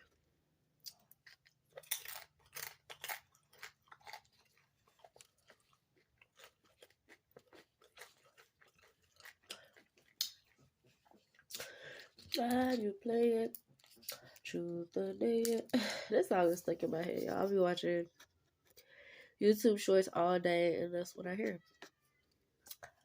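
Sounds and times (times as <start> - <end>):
person chewing and crunching food: 0.0 - 19.0, 21.4 - 23.0.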